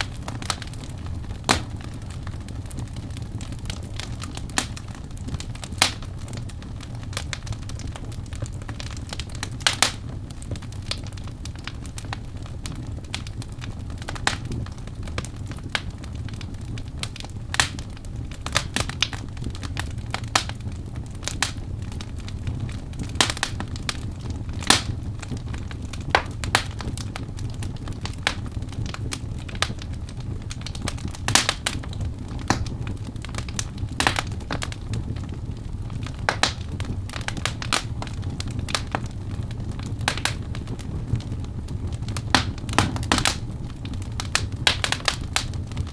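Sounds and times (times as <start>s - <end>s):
logs crackling and popping: 0.0s - 45.9s
low rumble of flames: 0.0s - 45.9s.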